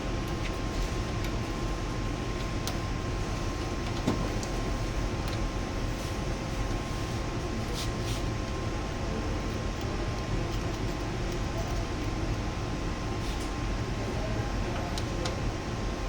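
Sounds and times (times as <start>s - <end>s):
machine whine and rumble: 0.0s - 16.0s.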